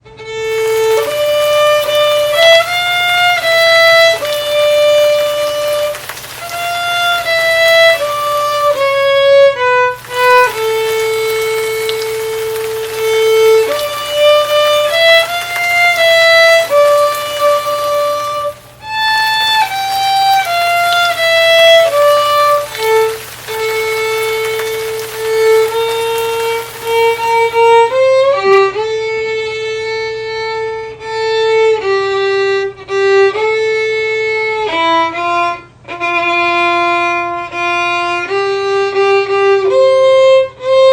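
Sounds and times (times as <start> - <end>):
solo violin melody: 0.0 - 40.9.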